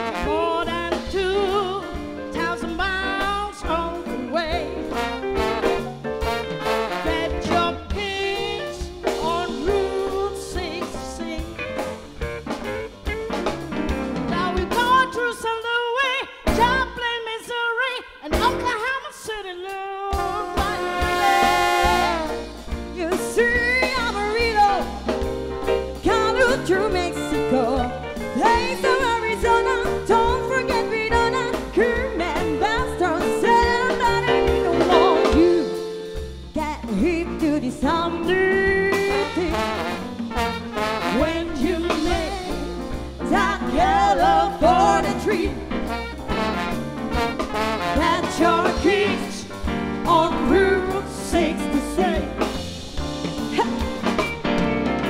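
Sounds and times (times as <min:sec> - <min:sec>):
woman singing: 0:00.0 - 0:05.6, 0:06.6 - 0:12.0, 0:14.3 - 0:22.3, 0:22.9 - 0:25.2, 0:26.0 - 0:40.1, 0:40.9 - 0:46.0, 0:47.8 - 0:52.6
congas: 0:00.0 - 0:15.4, 0:18.3 - 0:55.0
swing band playing: 0:00.0 - 0:55.0.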